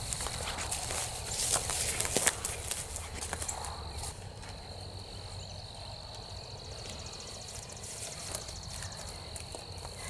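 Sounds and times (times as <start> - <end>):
insect trill: 0.0 - 10.0.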